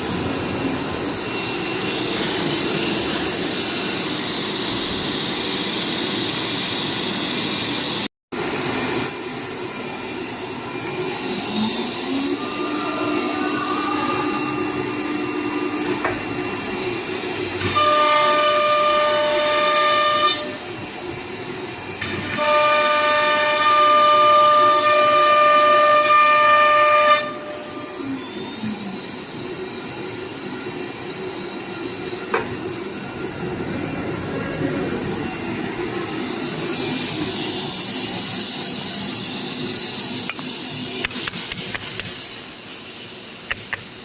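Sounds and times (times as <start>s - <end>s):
machine whining tones: 0.0s - 8.0s, 9.0s - 40.8s
cnc router machining: 0.0s - 41.1s.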